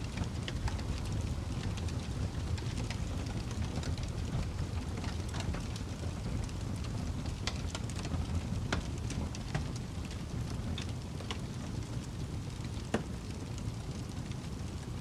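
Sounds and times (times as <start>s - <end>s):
fire crackling and popping: 0.0s - 15.0s
wood fire roaring: 0.0s - 15.0s.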